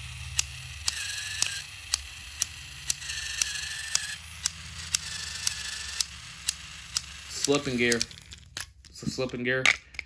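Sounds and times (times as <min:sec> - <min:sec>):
toy train motor hum and whine: 0:00.0 - 0:08.6.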